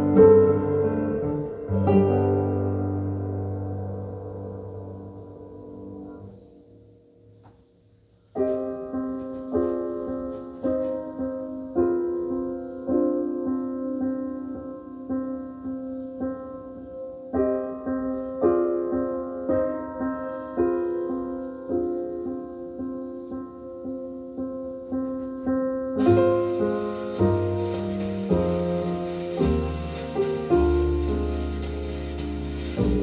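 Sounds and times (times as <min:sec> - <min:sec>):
jazz piano chords over loudspeakers: 0:00.0 - 0:06.4, 0:08.4 - 0:33.0.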